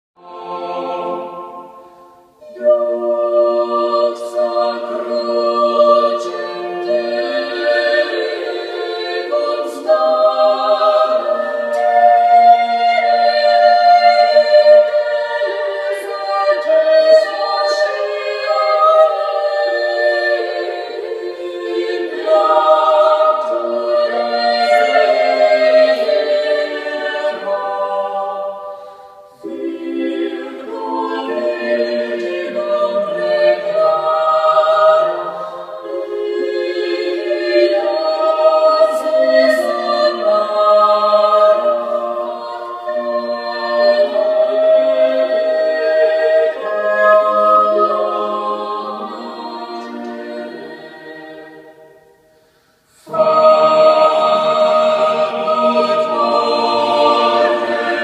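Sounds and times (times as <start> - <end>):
choir singing over speakers: 0.2 - 52.4, 53.0 - 58.0.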